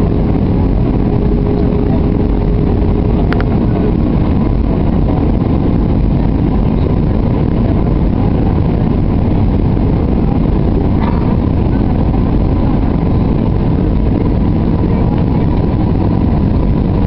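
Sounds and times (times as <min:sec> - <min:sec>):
jet airliner cabin noise: 0:00.0 - 0:17.0.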